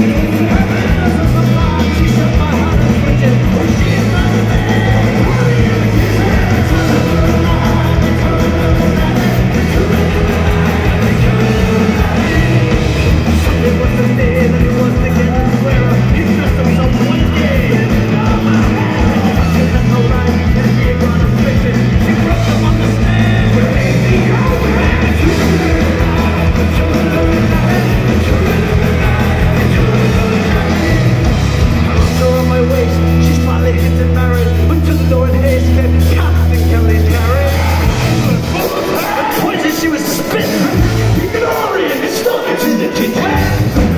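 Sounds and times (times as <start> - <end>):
shouted vocals: 0.0 - 31.4, 36.0 - 43.9
live punk rock band: 0.0 - 43.9.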